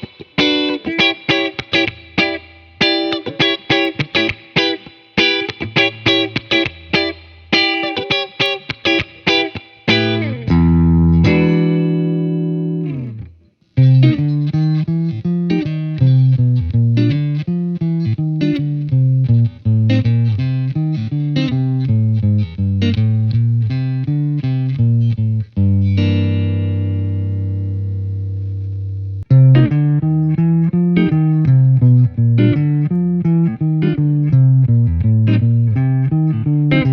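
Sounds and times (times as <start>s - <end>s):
clean picked guitar notes: 0.0s - 36.9s.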